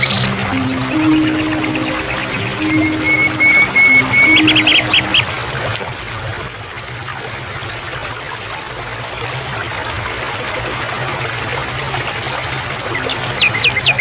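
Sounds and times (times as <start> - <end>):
stream of water flowing: 0.0 - 14.0.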